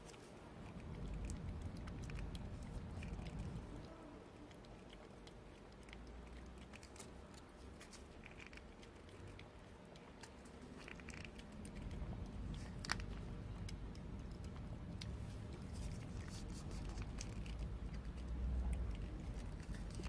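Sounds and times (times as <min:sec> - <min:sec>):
cat chewing and licking: 0:00.0 - 0:20.0.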